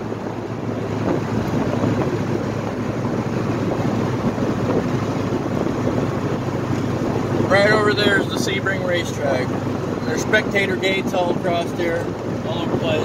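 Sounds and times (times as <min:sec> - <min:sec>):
car engine cruising: 0:00.0 - 0:13.0
wind noise: 0:00.0 - 0:13.0.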